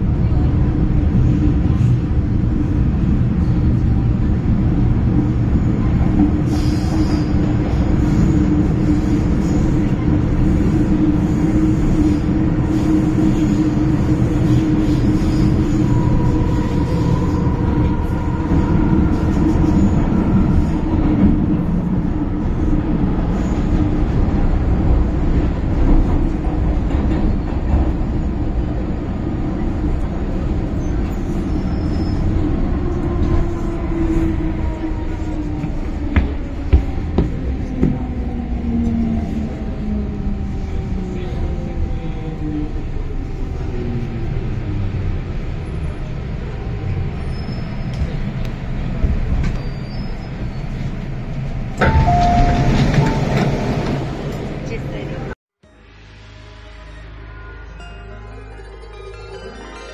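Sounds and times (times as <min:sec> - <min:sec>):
train wheels rumbling on rail: 0:00.0 - 0:55.4.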